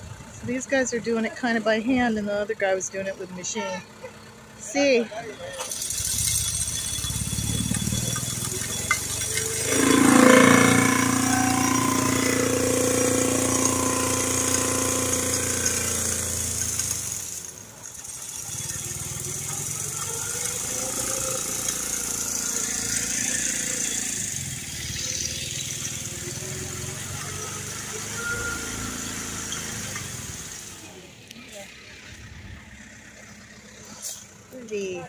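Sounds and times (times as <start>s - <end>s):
engine revving: 4.6s - 35.0s.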